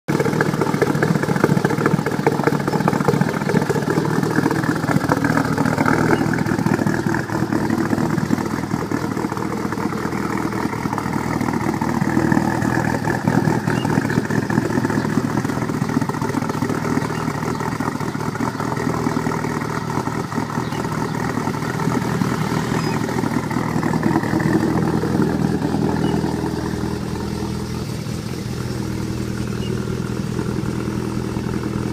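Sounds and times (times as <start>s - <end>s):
car engine idling roughly: 0.0s - 31.9s.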